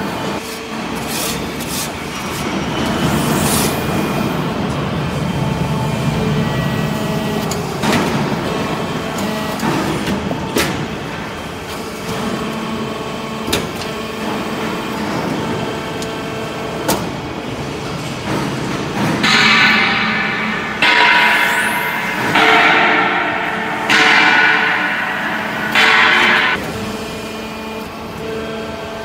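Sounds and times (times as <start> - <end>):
hydraulic power unit humming: 0.0 - 29.0.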